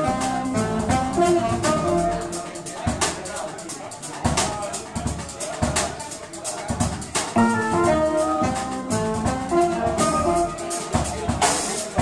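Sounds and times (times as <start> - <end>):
cymbal and drum strokes: 0.0 - 12.0
live jazz band: 0.0 - 12.0.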